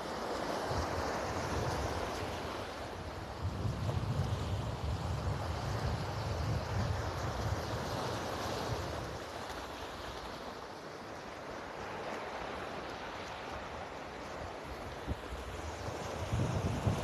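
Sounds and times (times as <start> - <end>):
waves washing over rocks: 0.0 - 17.0.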